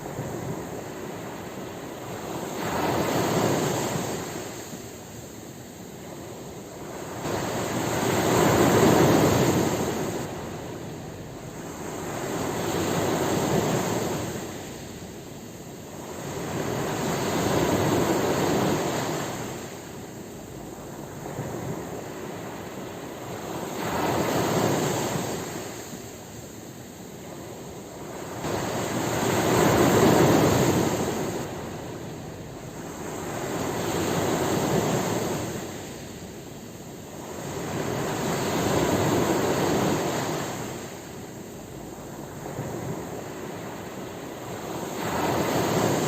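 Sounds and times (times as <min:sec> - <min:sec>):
ocean waves breaking on shore: 0:00.0 - 0:46.0.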